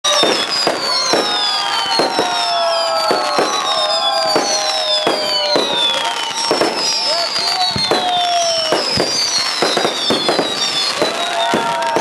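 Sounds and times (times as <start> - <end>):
fireworks whistling: 0.0 - 12.0
fireworks bangs: 0.1 - 12.0.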